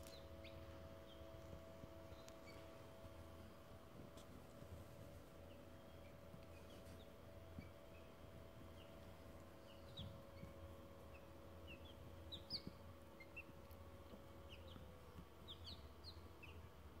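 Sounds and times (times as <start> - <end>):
chicks peeping: 0.0 - 17.0
faint steady hum: 0.0 - 17.0.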